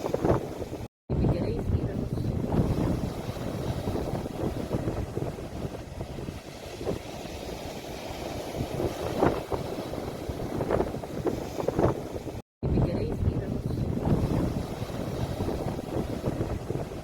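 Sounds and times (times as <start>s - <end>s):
sea waves washing: 0.0s - 17.0s
wind noise on microphone: 0.0s - 17.0s.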